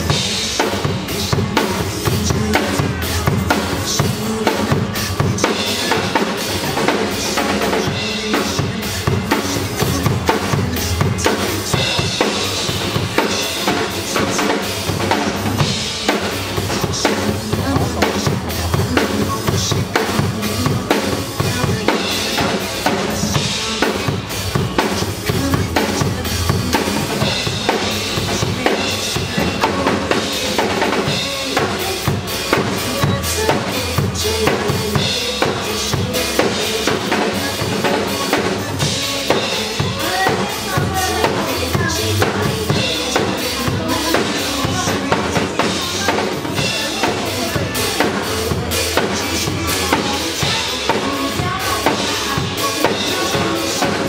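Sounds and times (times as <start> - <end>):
drum kit beat: 0.0 - 54.0
live pop band playing: 0.0 - 54.0.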